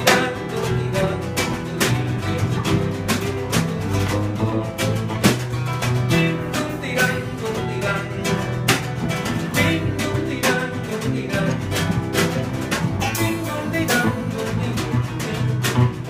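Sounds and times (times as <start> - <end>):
bass notes: 0.0 - 16.0
plucked guitar: 0.0 - 16.0.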